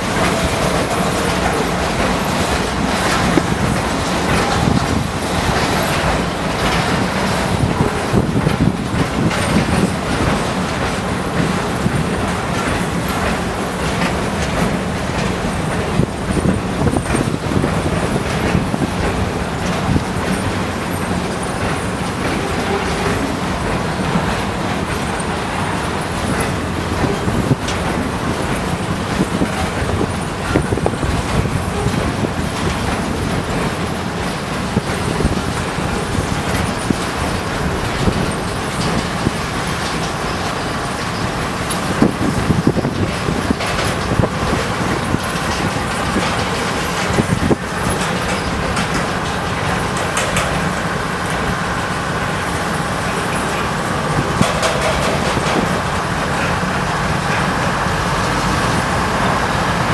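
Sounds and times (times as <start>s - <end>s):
clicks and clanks: 0.0s - 59.9s
train wheels rumbling on rail: 0.0s - 59.9s.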